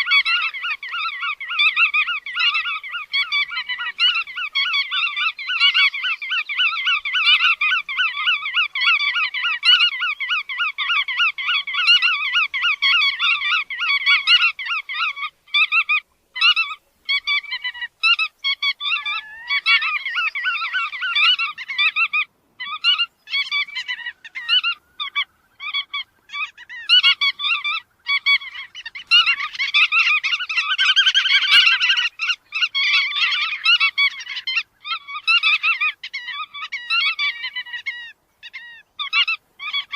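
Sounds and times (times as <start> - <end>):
bird calling repeated notes: 0.0 - 39.9.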